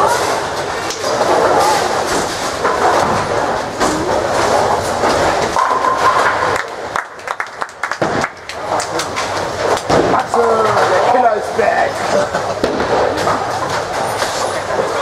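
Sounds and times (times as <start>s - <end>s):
bowling balls rolling: 0.0s - 15.0s.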